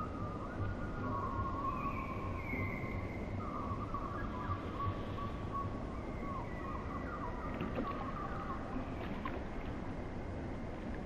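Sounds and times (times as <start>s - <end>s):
ambient music with wavering tones: 0.0s - 11.0s.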